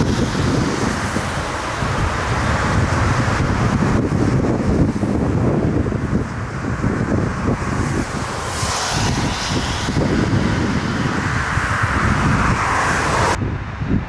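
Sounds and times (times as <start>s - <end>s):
jet engines rushing and rumbling: 0.0s - 14.0s
wind buffeting microphone: 0.0s - 14.0s.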